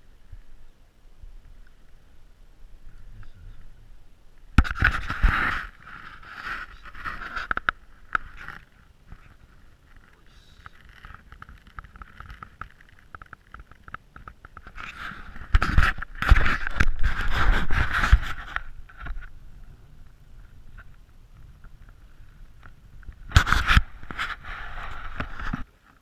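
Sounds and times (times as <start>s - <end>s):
rubbing and scraping on plastic kayak: 4.6s - 26.0s.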